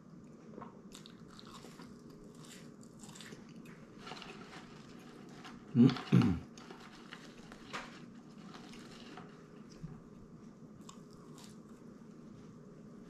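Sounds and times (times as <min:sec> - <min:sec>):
man chewing fries: 0:00.4 - 0:09.9, 0:10.8 - 0:11.9.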